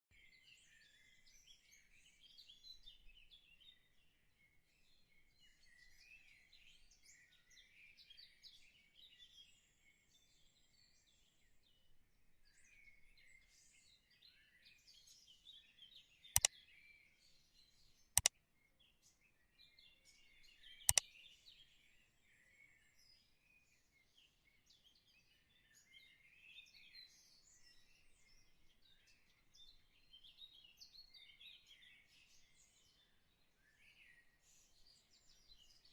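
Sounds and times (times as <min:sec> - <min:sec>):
small birds chirping: 0:00.1 - 0:21.6, 0:22.2 - 0:35.9.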